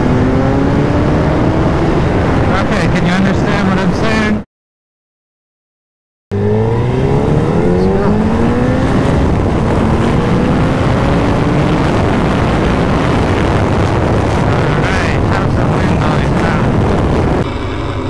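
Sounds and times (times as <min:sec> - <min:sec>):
motorcycle engine accelerating: 0:00.0 - 0:04.3, 0:06.3 - 0:18.0
heavy wind rush: 0:00.0 - 0:04.4, 0:06.4 - 0:18.0.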